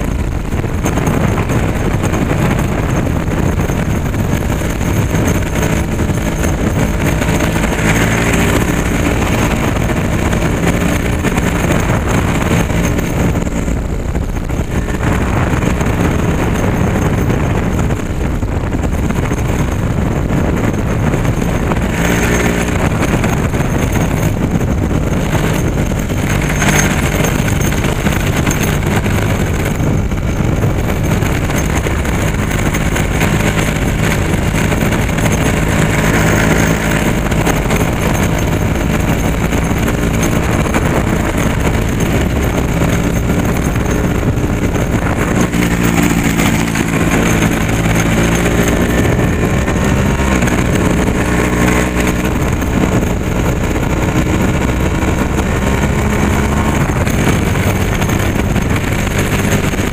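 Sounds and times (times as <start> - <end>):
vehicle engine running: 0.0 - 59.9
wind and road noise: 0.0 - 59.9.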